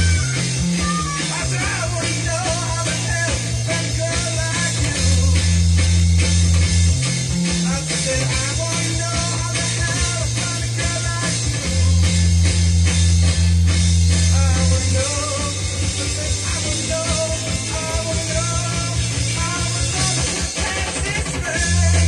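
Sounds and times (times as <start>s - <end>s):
rock song from vinyl record: 0.0s - 22.0s.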